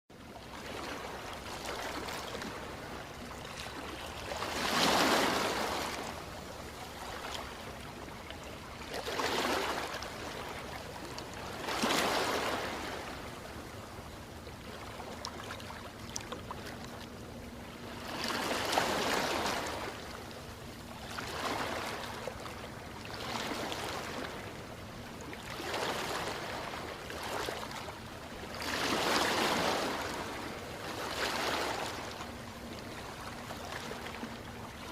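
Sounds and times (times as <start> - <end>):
ocean waves breaking on shore: 0.1 - 34.9.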